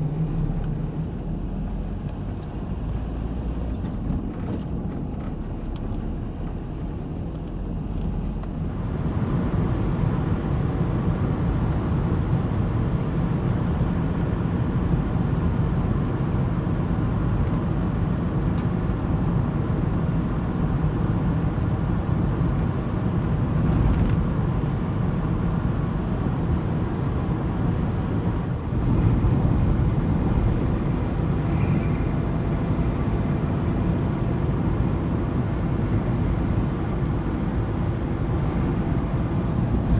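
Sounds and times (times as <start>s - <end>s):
van engine and road rumble: 0.0s - 39.9s.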